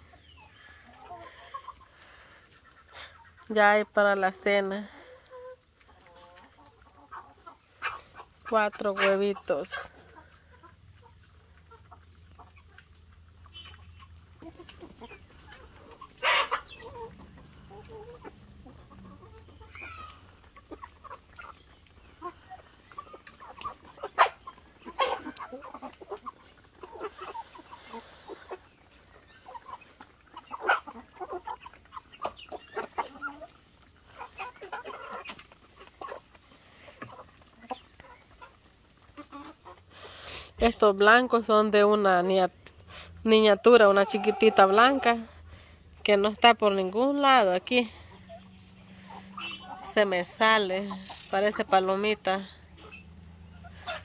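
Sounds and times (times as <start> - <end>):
hens and rooster clucking: 0.0 - 54.0.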